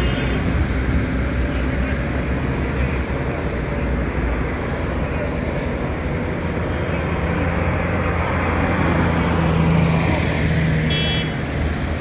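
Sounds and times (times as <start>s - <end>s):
passing car traffic: 0.0s - 12.0s.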